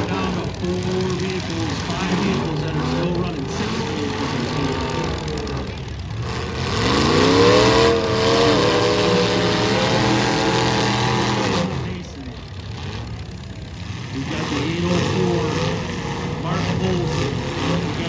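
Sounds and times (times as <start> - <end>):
car engine revving hard: 0.0 - 18.0
engines running: 0.0 - 18.0.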